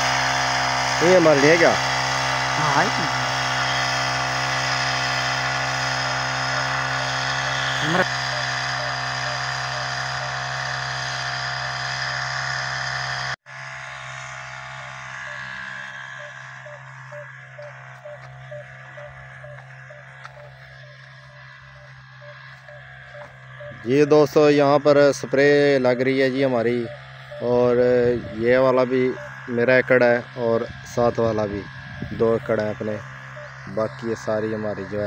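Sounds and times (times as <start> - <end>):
backpack sprayer engine running: 0.0 - 35.0.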